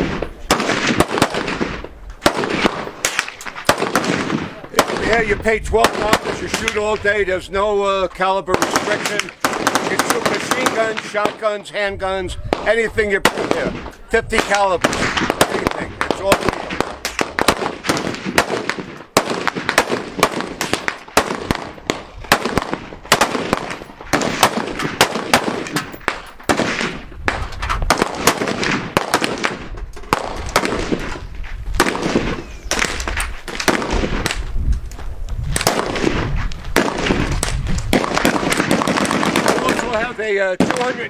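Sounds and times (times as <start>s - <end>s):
guns firing: 0.0s - 7.1s, 8.5s - 11.6s, 12.5s - 41.0s.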